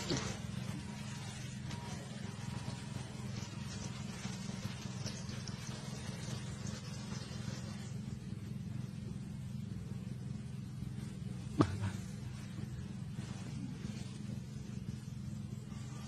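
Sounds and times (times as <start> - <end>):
small boat motor humming: 0.0 - 16.0.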